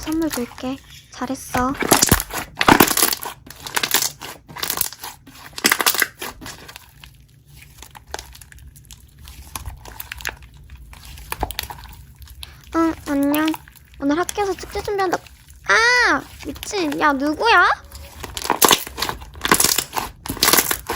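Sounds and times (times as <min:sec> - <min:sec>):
slime crackling and popping: 0:00.0 - 0:20.9.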